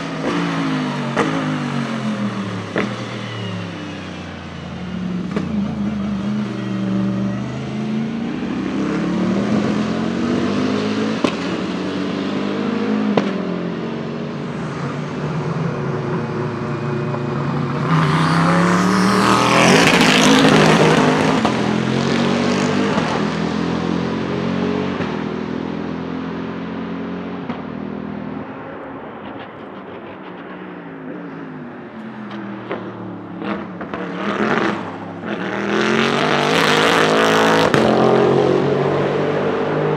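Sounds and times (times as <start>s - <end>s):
race car engine revving through gears: 0.0s - 27.7s, 31.4s - 39.9s.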